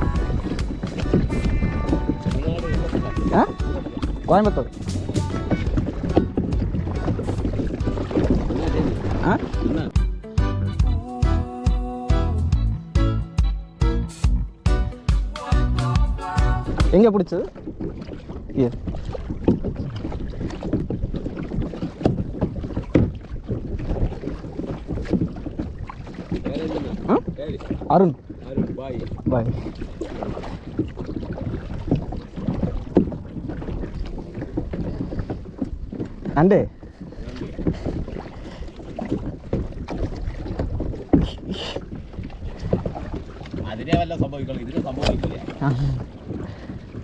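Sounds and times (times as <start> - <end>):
wind buffeting microphone: 0.0 - 10.0, 16.7 - 47.0
water lapping: 0.0 - 11.7, 14.5 - 47.0.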